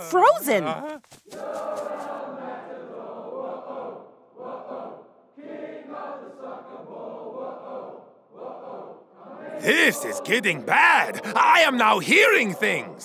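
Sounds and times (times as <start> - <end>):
crowd of fans chanting: 1.4 - 13.0.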